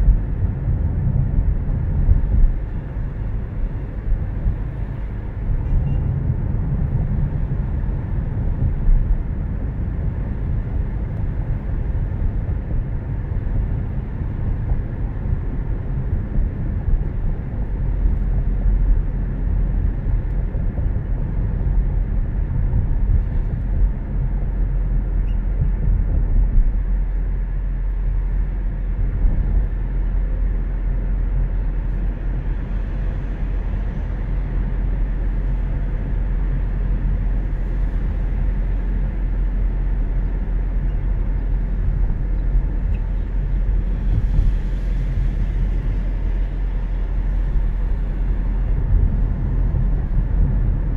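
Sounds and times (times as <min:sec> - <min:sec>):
car interior road rumble: 0:00.0 - 0:50.9.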